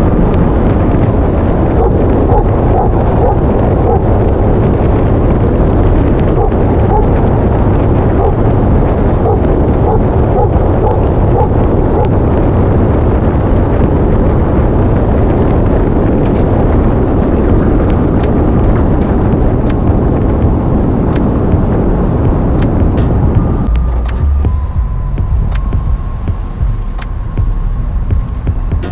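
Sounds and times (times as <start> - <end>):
vehicle rumble: 0.0 - 28.9
wind buffeting microphone: 0.0 - 28.9.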